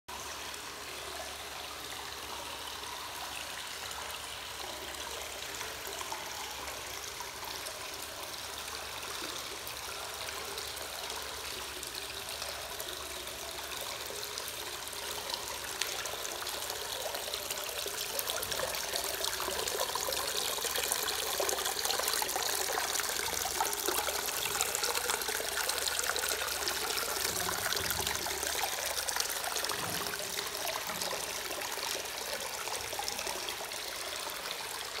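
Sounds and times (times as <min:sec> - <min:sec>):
water splashing into a bath: 0:00.6 - 0:35.0.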